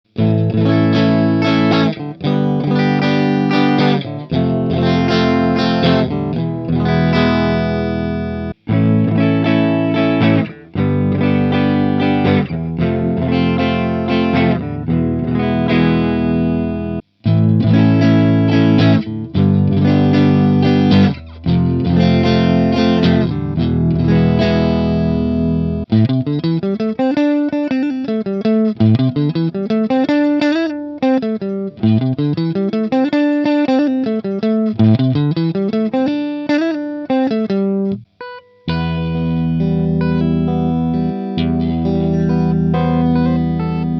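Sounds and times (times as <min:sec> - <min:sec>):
distorted electric guitar: 0:00.1 - 0:43.9.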